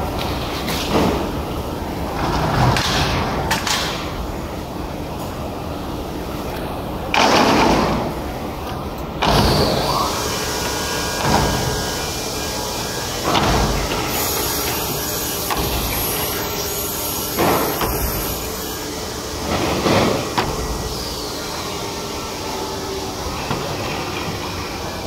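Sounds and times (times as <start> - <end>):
factory machine noise: 0.0 - 25.0.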